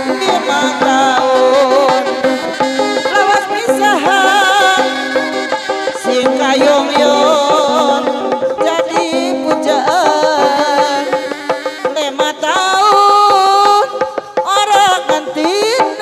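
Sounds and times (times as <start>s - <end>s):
nasal reed pipe melody: 0.0s - 16.0s
steady drumming: 0.0s - 16.0s.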